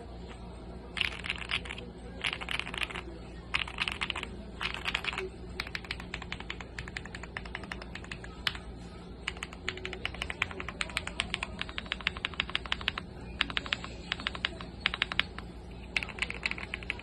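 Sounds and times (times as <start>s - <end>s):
mechanical keyboard typing: 1.0s - 17.0s.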